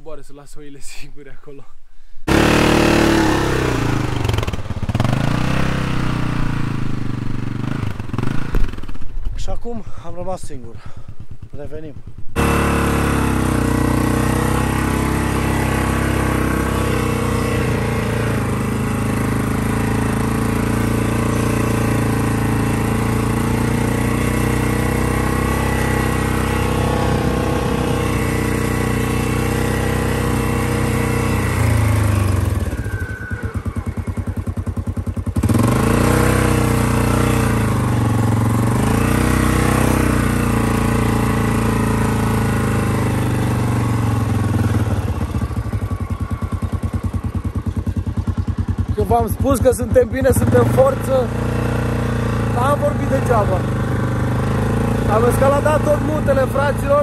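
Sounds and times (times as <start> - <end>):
quad bike engine running: 2.3 - 57.0.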